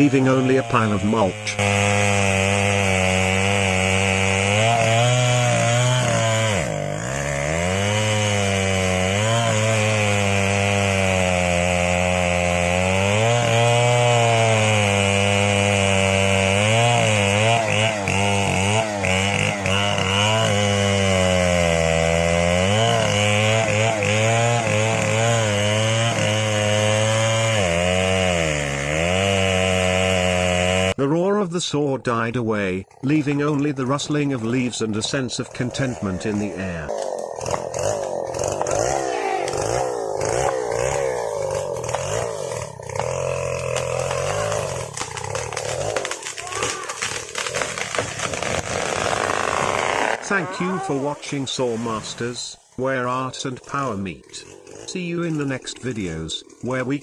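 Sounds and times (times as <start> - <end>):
chainsaw cutting at high revs: 0.0 - 31.0, 32.8 - 57.0.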